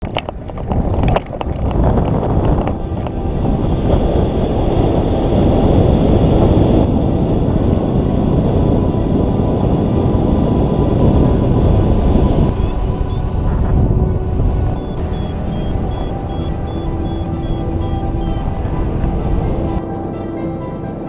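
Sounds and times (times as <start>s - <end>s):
heavy wind buffeting microphone: 0.0s - 21.0s.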